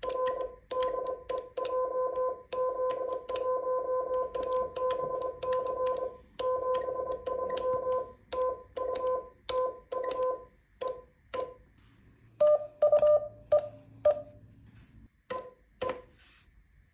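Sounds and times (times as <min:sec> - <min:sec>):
morse code tone: 0:00.0 - 0:11.6, 0:12.4 - 0:14.4.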